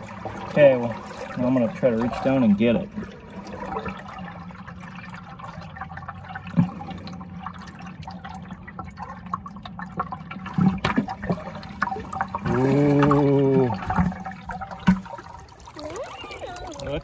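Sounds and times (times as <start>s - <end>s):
river water sloshing and gurgling: 0.0s - 17.0s.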